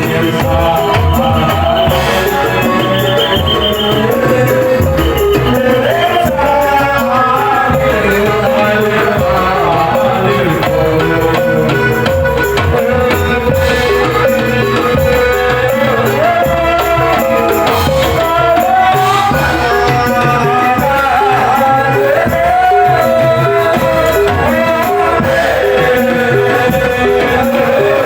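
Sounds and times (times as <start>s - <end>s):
drums and hand percussion: 0.0s - 28.0s.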